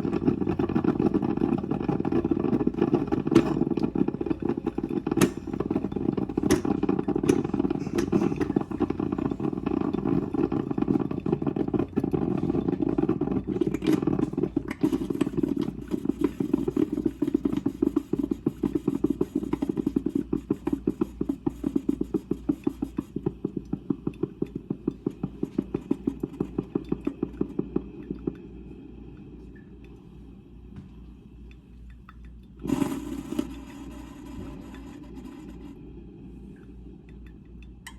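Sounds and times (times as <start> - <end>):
coffee maker gurgling and sputtering: 0.0 - 37.9.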